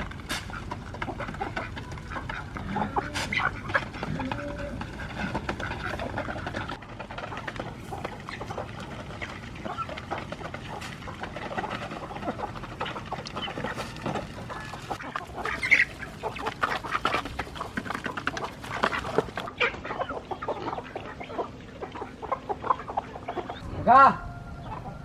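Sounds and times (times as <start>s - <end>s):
poultry clucking: 0.0s - 25.0s.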